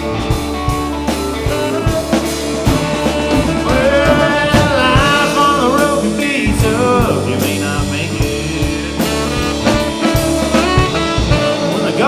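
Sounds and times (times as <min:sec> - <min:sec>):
bending lead guitar line: 0:00.0 - 0:12.0
rock band playing: 0:00.0 - 0:12.0.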